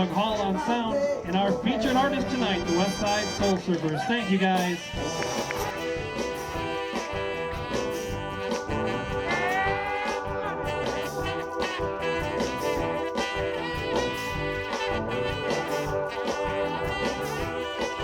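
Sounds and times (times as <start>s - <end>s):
horn section: 0.0s - 18.0s
soul band playing: 0.0s - 18.0s
steady drum beat: 0.0s - 18.0s.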